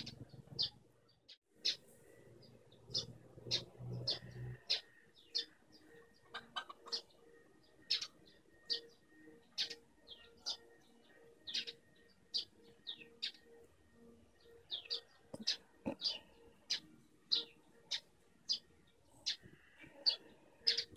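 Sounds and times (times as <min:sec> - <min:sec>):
faint steady tone: 0:00.0 - 0:20.9.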